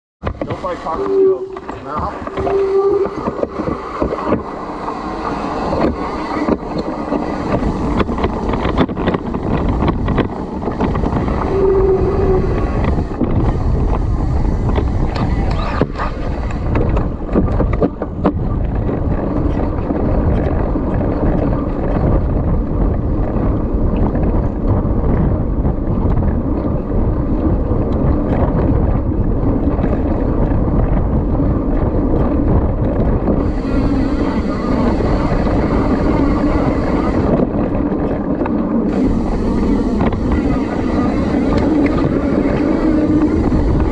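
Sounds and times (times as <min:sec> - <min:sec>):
wind on microphone: 0:00.2 - 0:43.9.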